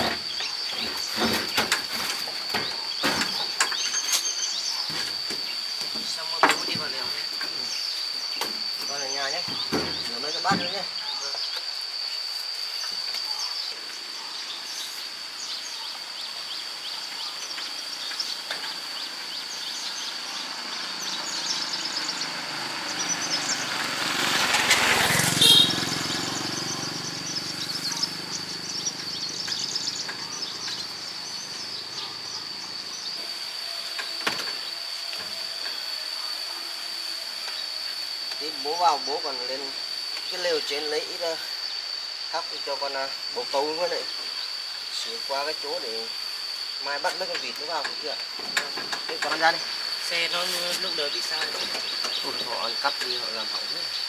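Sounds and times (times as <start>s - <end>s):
birds chirping: 0.0s - 54.0s
high insect drone: 0.0s - 54.0s.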